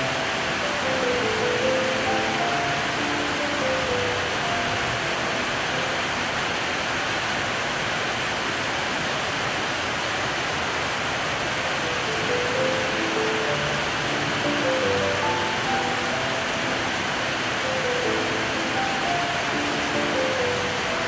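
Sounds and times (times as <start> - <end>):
heavy rain on roofs: 0.0 - 21.0.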